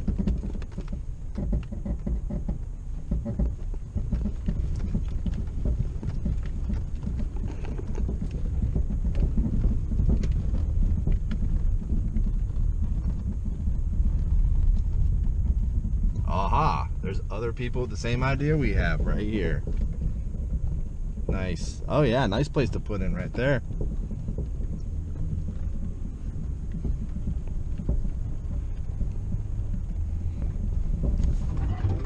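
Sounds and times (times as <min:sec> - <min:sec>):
rattles and knocks from bumps: 0:00.0 - 0:32.0
vehicle rumble on rough road: 0:00.0 - 0:32.0.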